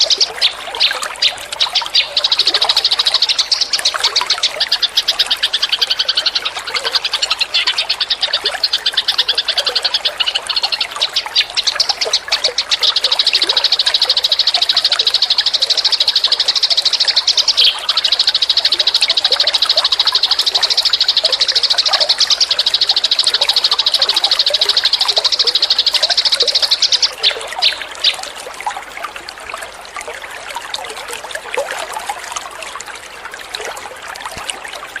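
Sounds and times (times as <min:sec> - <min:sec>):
sparrows chirping: 0:00.0 - 0:28.2.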